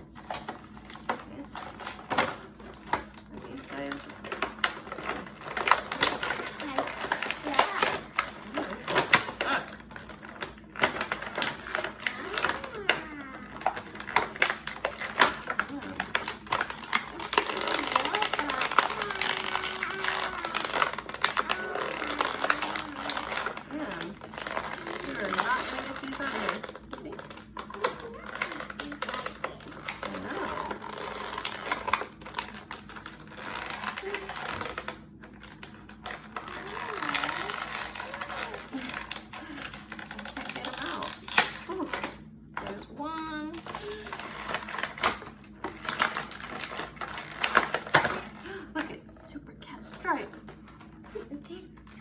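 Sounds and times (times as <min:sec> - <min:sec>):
plastic packaging crackling: 0:00.0 - 0:48.9
plastic toys clicking and rattling: 0:00.0 - 0:52.0.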